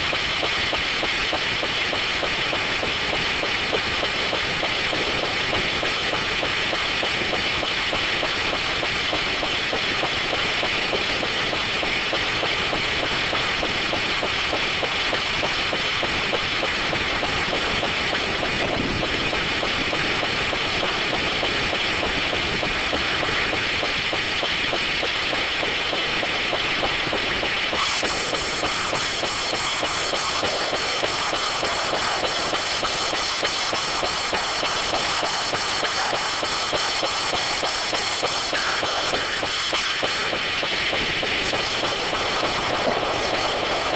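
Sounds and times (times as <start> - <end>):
circular sawmill rattling: 0.0 - 43.9.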